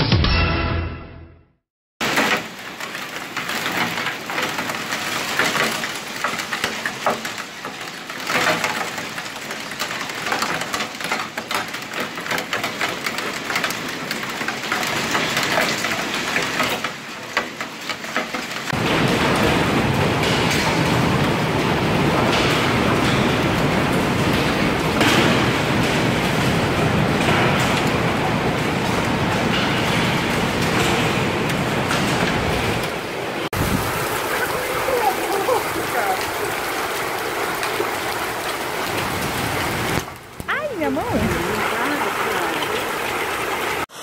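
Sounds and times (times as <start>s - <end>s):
hail clattering: 2.0s - 43.9s
heavy rain: 2.0s - 44.0s.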